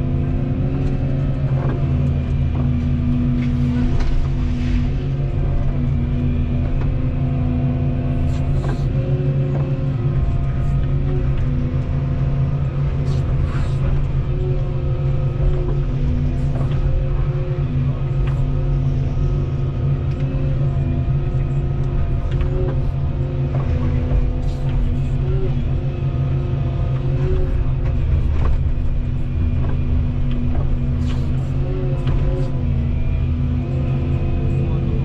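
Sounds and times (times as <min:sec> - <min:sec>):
excavator diesel engine running: 0:00.0 - 0:35.0
hydraulics working: 0:00.0 - 0:35.0.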